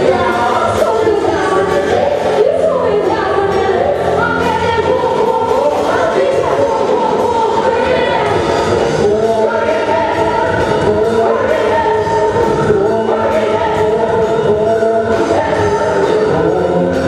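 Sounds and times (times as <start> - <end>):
live band playing: 0.0 - 17.0
person singing: 0.0 - 17.0.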